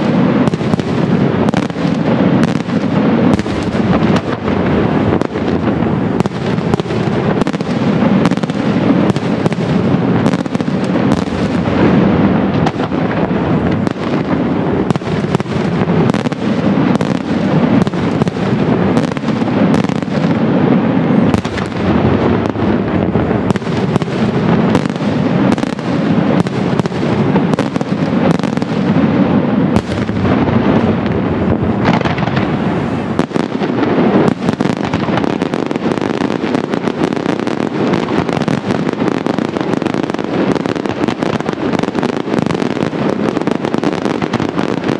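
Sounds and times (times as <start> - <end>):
fireworks bangs: 0.0 - 44.9
sharp firework cracks: 0.0 - 44.9.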